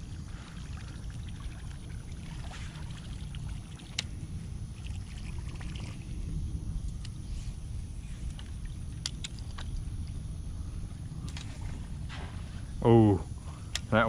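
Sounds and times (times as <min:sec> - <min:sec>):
low microphone rumble: 0:00.0 - 0:13.7.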